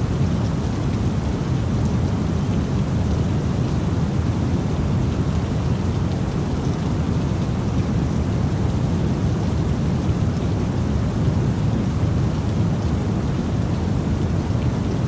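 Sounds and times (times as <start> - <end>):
rain and thunderstorm: 0.0 - 15.0.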